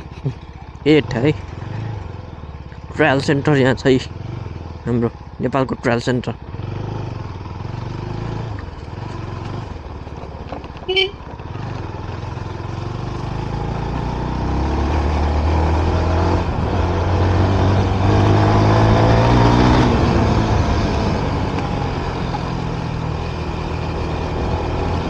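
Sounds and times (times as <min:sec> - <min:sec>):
road and wind noise: 0:00.0 - 0:25.0
vehicle engine running: 0:00.0 - 0:25.0.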